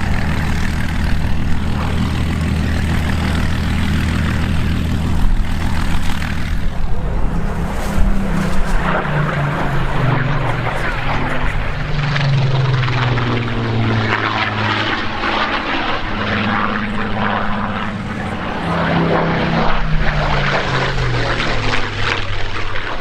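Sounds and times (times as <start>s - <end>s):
propeller aircraft flying past: 0.0s - 23.0s.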